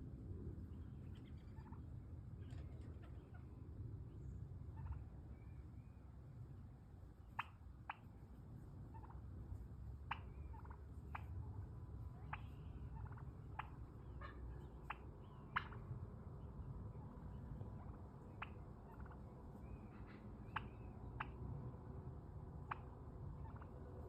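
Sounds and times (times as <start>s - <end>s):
turkey clucks: 0.6s - 3.6s, 4.6s - 5.6s, 7.1s - 24.0s.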